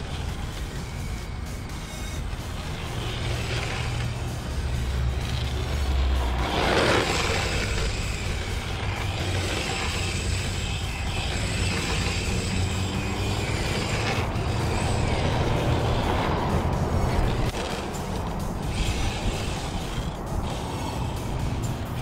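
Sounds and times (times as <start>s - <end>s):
electric motor high whine: 0.0s - 22.0s
tyres scrubbing and sliding: 0.0s - 22.0s.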